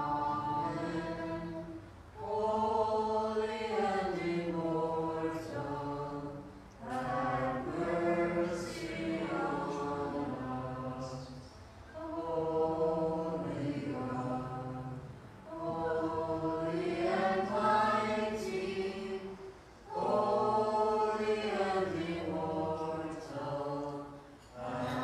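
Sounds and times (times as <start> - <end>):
a cappella liturgical chant: 0.0 - 25.0.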